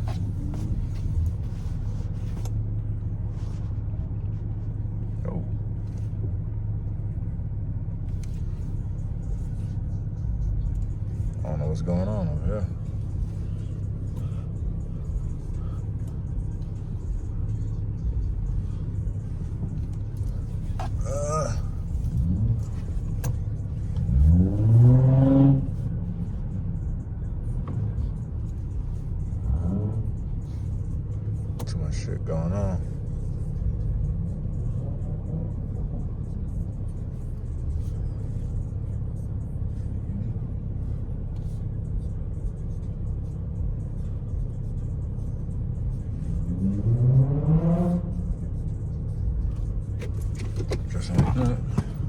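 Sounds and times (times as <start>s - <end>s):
car engine idling and revving: 0.0s - 52.0s
steady low rumble: 0.0s - 52.0s.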